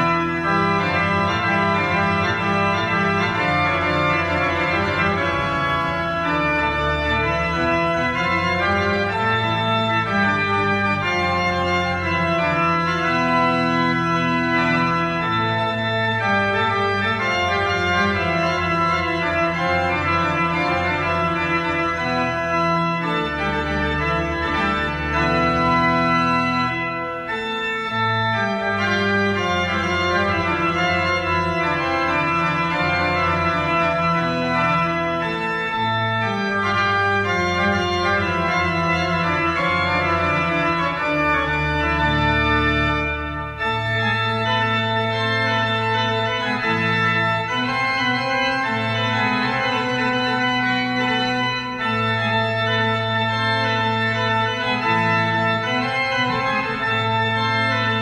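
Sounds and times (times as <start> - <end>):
pipe organ playing: 0.0 - 58.0.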